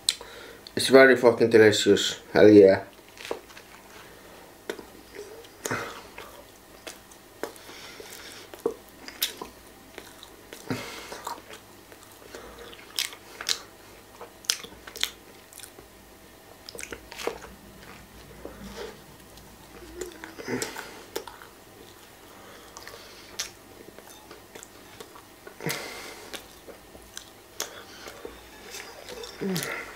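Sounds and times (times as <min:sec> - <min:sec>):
person chewing a sandwich: 0:02.9 - 0:29.9.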